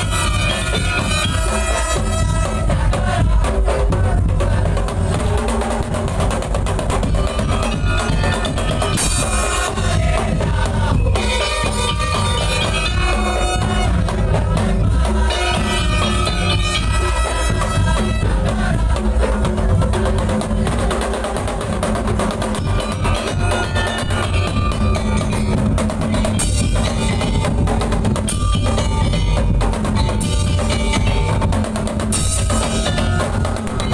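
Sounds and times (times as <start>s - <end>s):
drums: 0.0s - 33.9s.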